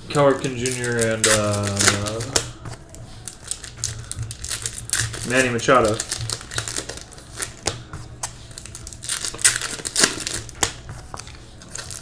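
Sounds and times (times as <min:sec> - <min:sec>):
wrappers crinkling: 0:00.0 - 0:12.0
cards clicking and rustling: 0:00.4 - 0:12.0.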